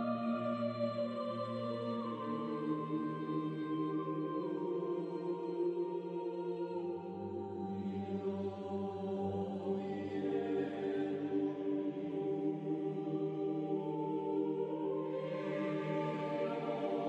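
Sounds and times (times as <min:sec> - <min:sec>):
slow music with chant-like voices: 0:00.0 - 0:17.0.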